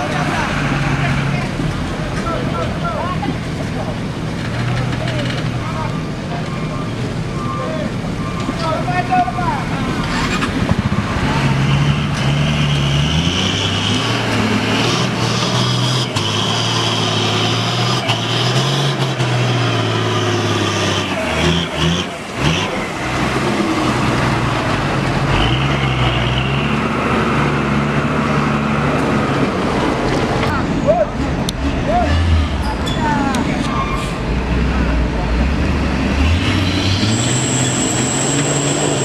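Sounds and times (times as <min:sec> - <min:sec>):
truck diesel engine under load: 0:00.0 - 0:39.0.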